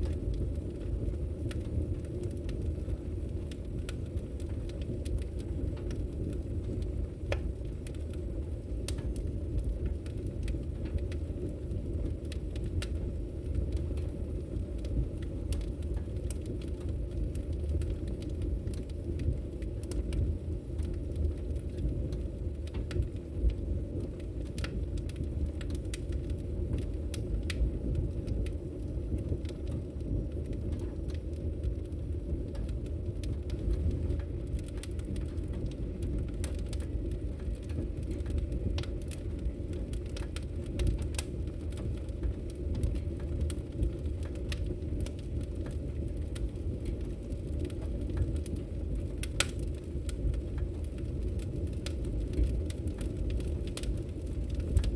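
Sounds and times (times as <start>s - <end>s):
fire crackling: 0.0s - 54.9s
fire rumbling in fireplace: 0.0s - 54.9s.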